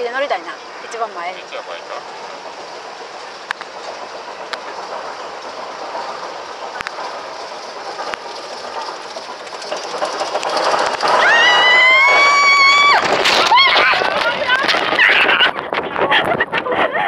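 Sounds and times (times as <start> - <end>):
roller coaster rolling rattle: 0.0 - 17.0
sharp clacks: 1.7 - 16.7.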